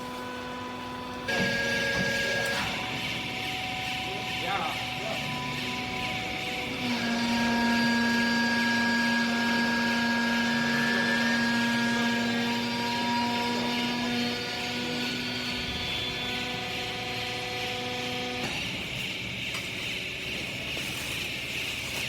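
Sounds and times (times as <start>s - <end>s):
hydraulic press motor humming: 0.0s - 20.7s.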